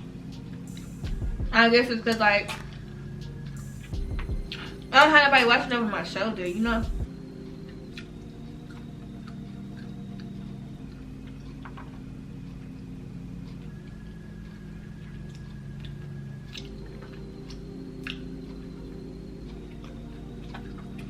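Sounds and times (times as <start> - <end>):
low hum with held tones: 0.0 - 21.0.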